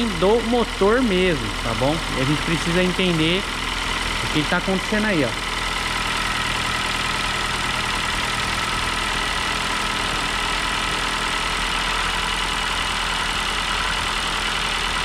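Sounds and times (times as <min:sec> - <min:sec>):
car engine idling: 0:00.0 - 0:15.0
engine ticking: 0:00.0 - 0:15.0.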